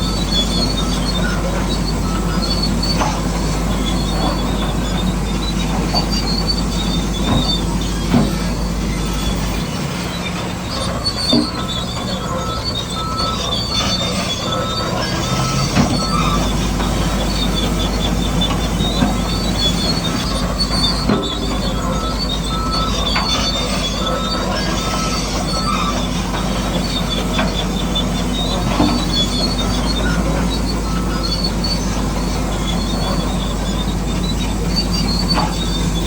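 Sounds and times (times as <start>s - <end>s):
gears and tracks squeaking: 0.0s - 36.0s.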